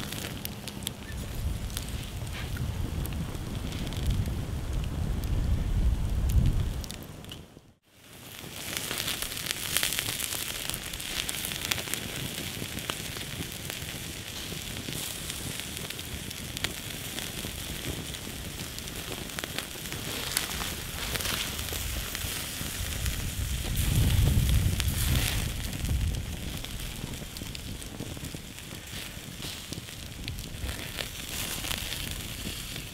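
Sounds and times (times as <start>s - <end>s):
sausages sizzling on grill: 0.0s - 6.6s, 7.8s - 32.9s
campfire crackling and popping: 0.0s - 32.9s.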